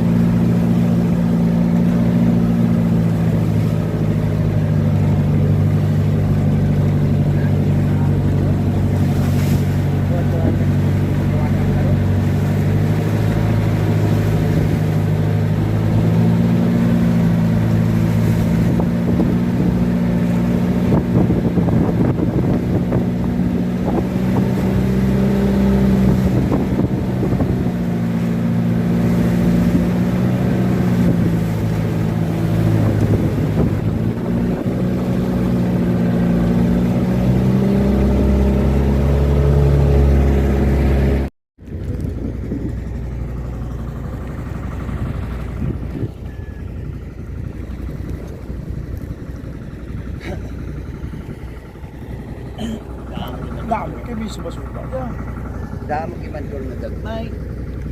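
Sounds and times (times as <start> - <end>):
wind on microphone: 0.0 - 55.9
large engine droning: 0.0 - 57.9.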